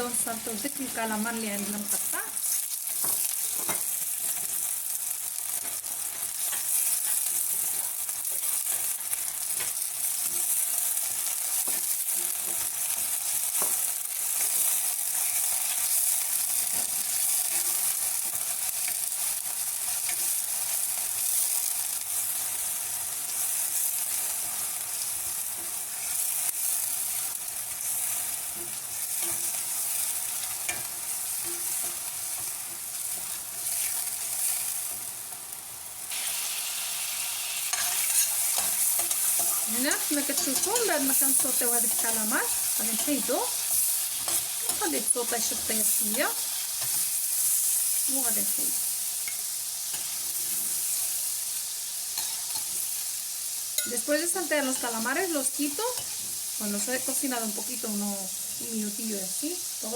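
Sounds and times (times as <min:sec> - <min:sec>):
squid sizzling in a frying pan: 0:00.0 - 0:59.9.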